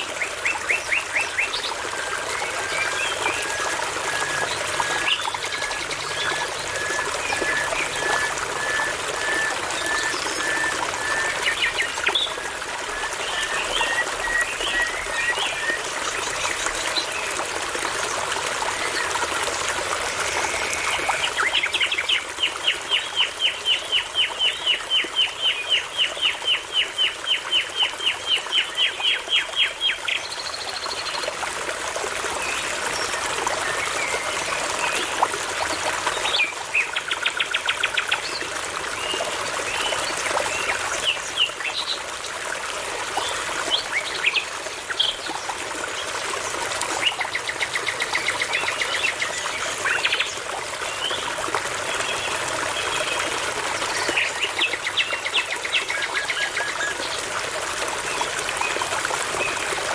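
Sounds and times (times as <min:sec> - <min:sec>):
babbling brook: 0:00.0 - 0:59.9.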